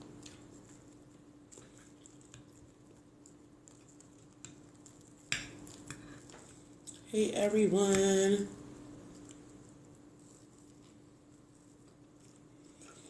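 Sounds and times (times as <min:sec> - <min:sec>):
soft mouth eating noises: 0:00.0 - 0:07.1, 0:09.0 - 0:13.0
low steady hum: 0:00.0 - 0:13.0.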